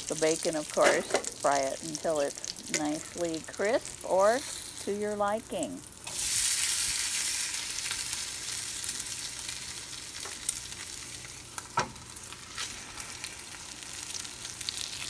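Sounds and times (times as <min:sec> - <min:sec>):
bacon sizzling in a pan: 0:00.0 - 0:15.0.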